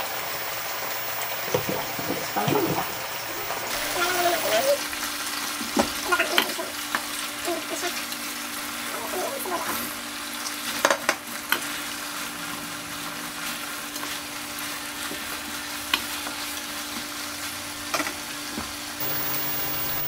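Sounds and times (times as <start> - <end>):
food sizzling in a pot: 0.0 - 20.0.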